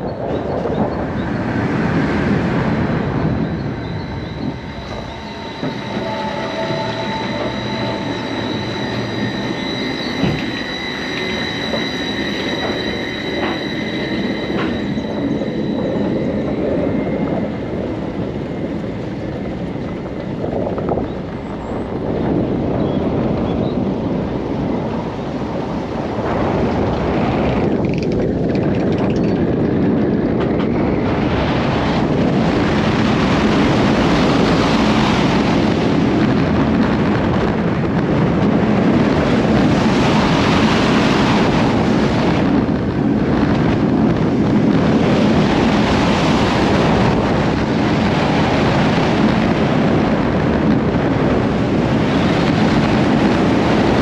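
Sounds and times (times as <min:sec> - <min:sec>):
roller coaster wheels rumbling on track: 0:00.0 - 0:54.0
wind rushing over microphone: 0:00.0 - 0:54.0.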